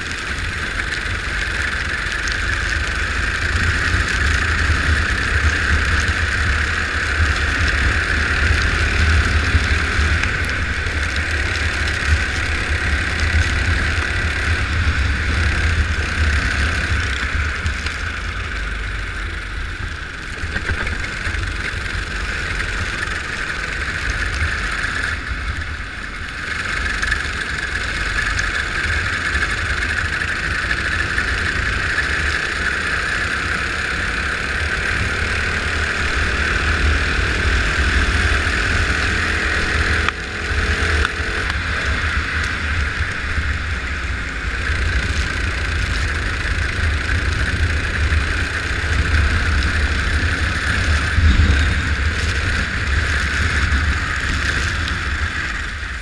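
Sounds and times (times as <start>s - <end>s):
go-kart engine running: 0.0s - 56.0s
wind rumbling on microphone: 0.0s - 56.0s.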